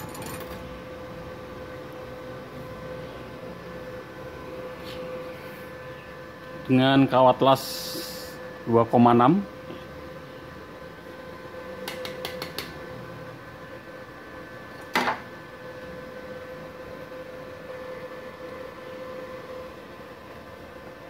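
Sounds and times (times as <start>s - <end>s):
welder fan hum and whine: 0.0s - 21.0s.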